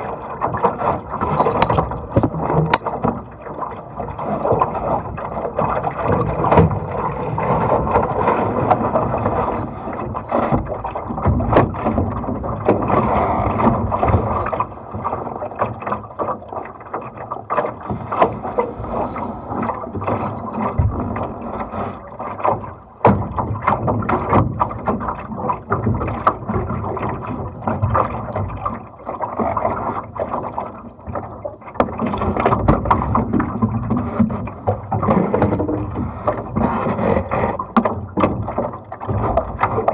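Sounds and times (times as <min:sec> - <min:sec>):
water splashing along a boat hull: 0:00.0 - 0:39.9.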